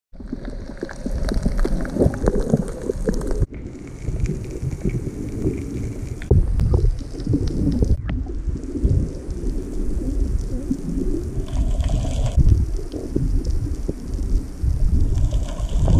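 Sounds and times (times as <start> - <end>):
crackles and clicks: 0.1 - 15.9
muffled underwater water rushing: 0.1 - 15.9.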